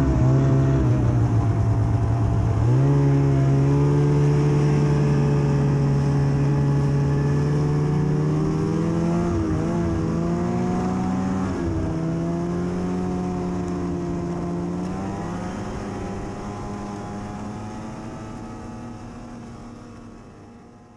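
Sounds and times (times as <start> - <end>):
snowmobile engine running: 0.0 - 20.6.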